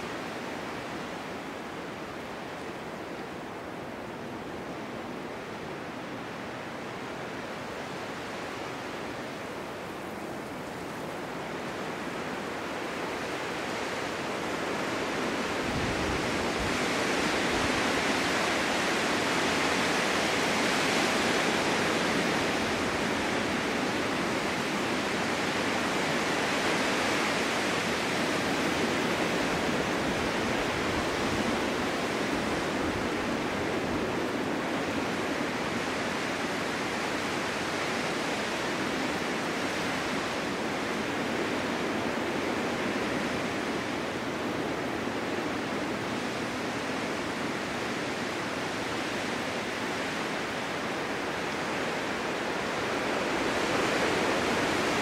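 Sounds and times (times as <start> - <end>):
snowstorm wind blowing: 0.0 - 55.0.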